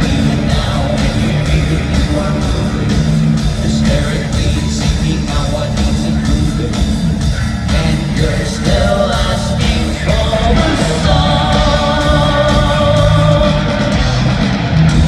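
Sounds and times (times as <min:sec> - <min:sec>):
rock song with singer: 0:00.0 - 0:15.0.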